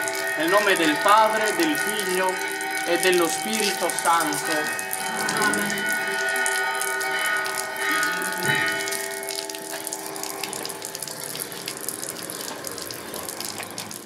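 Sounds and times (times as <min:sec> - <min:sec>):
water running from a tap: 0:00.0 - 0:14.0.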